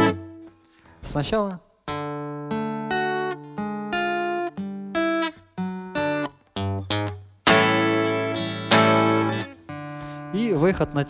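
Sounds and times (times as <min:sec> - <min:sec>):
fingerstyle acoustic guitar: 0:00.0 - 0:00.8, 0:01.9 - 0:11.0.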